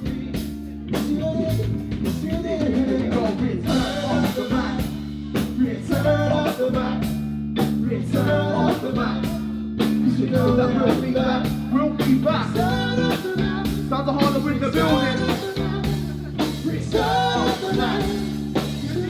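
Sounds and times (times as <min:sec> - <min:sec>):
person singing: 0:00.0 - 0:07.1, 0:07.9 - 0:19.0
drum kit beat: 0:00.0 - 0:19.0
guitar: 0:00.0 - 0:19.0
live band playing: 0:00.0 - 0:19.0.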